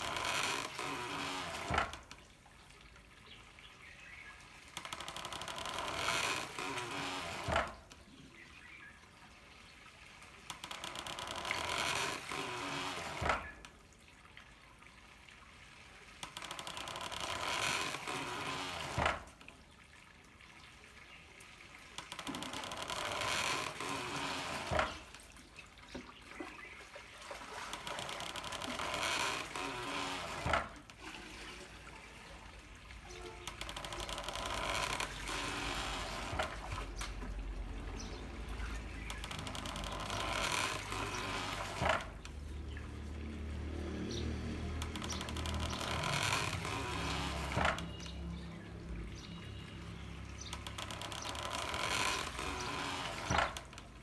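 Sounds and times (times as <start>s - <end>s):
water running through a pipe: 0.0s - 54.0s.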